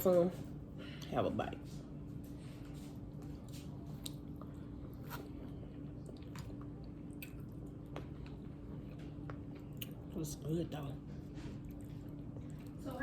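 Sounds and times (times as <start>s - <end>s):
steady low hum: 0.0s - 13.0s
soft wet chewing: 1.7s - 12.9s.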